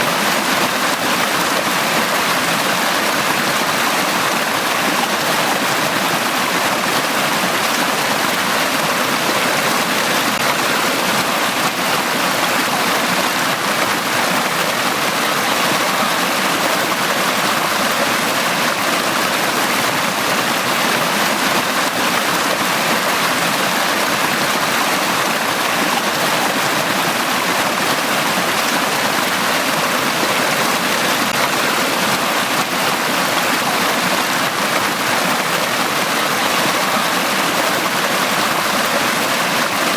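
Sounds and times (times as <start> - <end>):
brook water flowing: 0.0 - 39.9.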